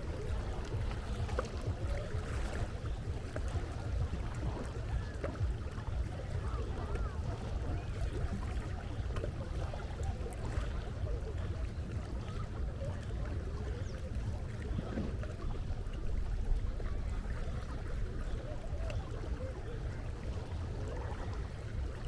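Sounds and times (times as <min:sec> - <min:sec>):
waves: 0:00.0 - 0:22.0
wind rumble on microphone: 0:00.0 - 0:22.0.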